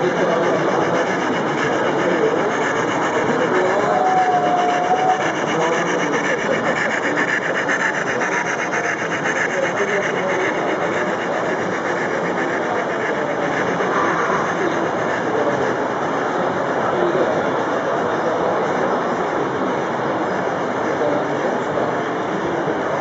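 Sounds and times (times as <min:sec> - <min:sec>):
model train running: 0:00.0 - 0:23.0.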